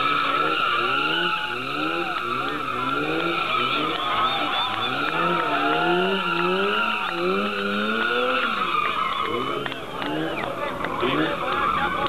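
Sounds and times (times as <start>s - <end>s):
tyre squeal: 0.0s - 10.2s
car engine revving: 0.0s - 12.0s.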